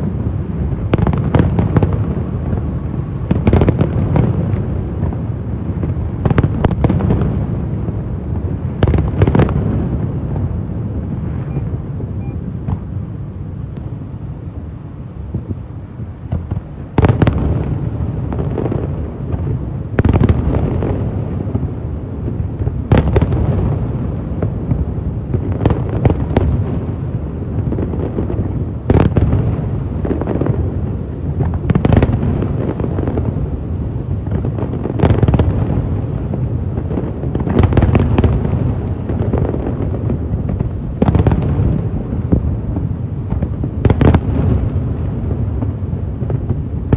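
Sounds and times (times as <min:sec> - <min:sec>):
firework crackling: 0:00.0 - 0:46.9.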